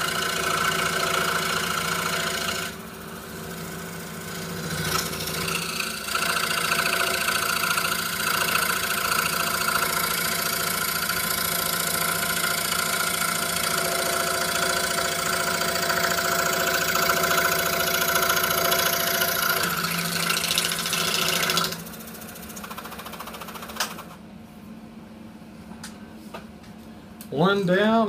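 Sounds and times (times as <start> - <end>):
scroll saw buzzing: 0.0 - 24.1.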